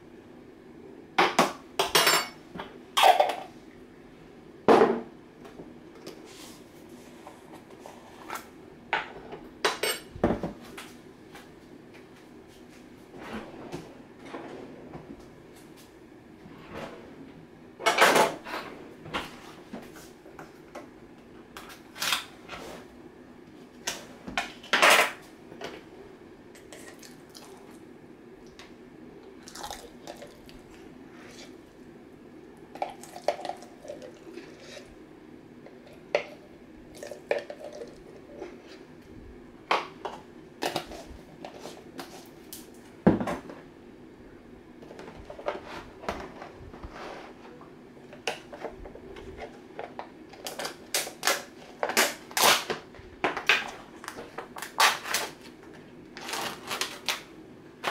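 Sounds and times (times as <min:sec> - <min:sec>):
faint steady hum: 0:00.0 - 0:57.9.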